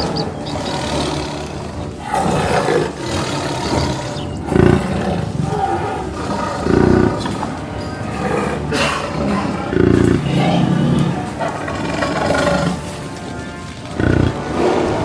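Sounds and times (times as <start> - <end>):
big cat roaring and snarling: 0.0 - 13.0, 14.0 - 15.0.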